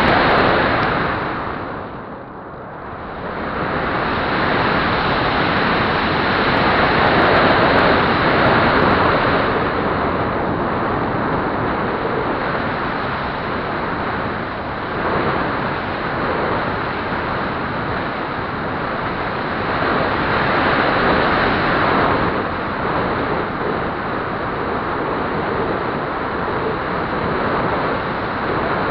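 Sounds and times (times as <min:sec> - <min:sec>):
wind rushing over microphone: 0:00.0 - 0:28.9.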